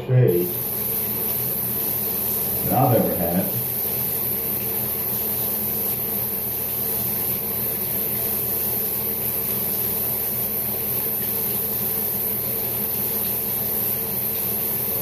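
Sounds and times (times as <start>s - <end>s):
machine hum: 0.0s - 15.0s
high hiss: 0.3s - 15.0s.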